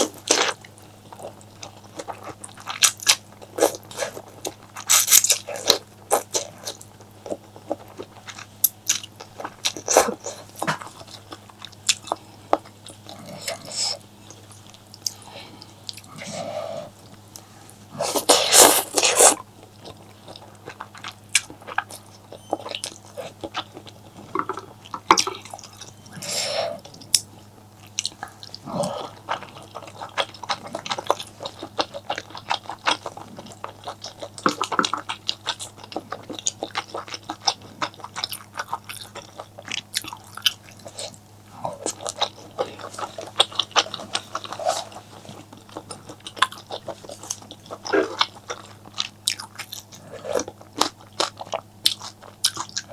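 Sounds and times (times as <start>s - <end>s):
person chewing: 0.0s - 52.9s.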